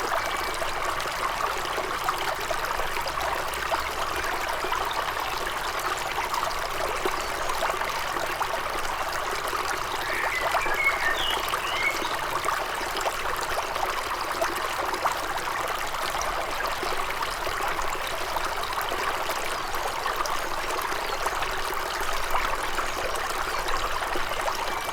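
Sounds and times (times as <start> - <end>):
stream trickling and babbling: 0.0 - 24.9.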